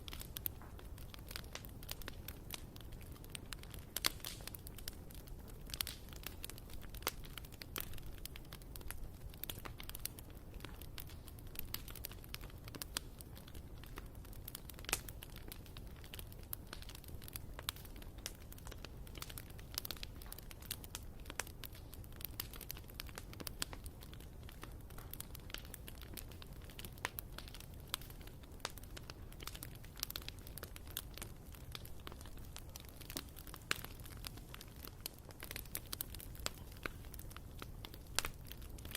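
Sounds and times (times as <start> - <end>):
low rumble of flames: 0.0 - 38.9
wood crackling and popping: 0.0 - 38.9.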